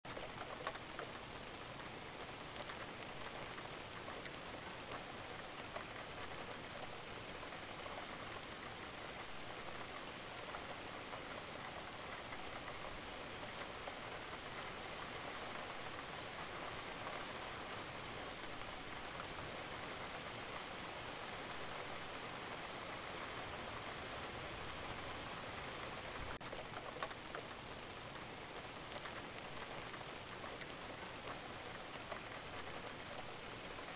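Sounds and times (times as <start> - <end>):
steady rain hissing: 0.0 - 33.9
faint ticks: 0.1 - 22.0, 22.7 - 33.9.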